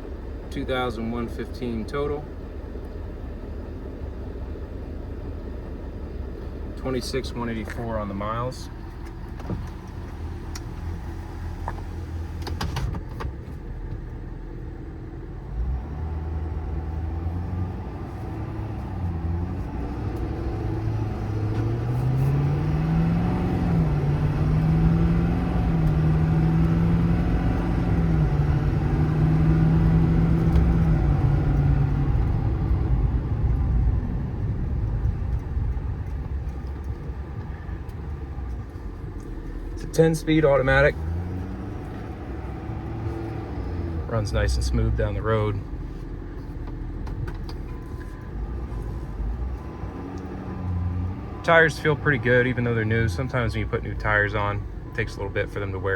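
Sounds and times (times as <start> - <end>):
diesel truck engine accelerating: 0.0 - 55.9.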